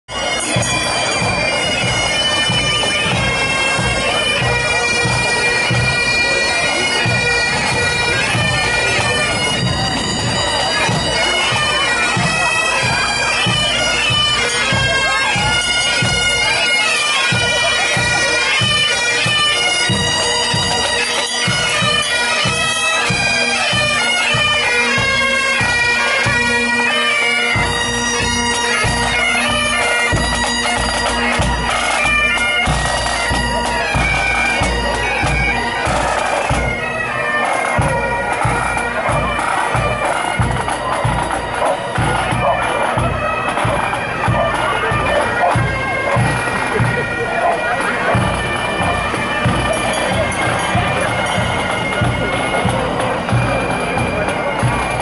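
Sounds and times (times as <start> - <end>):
marching drums beating: 0.1 - 26.5, 27.5 - 55.0
bagpipes playing melody: 0.1 - 55.0.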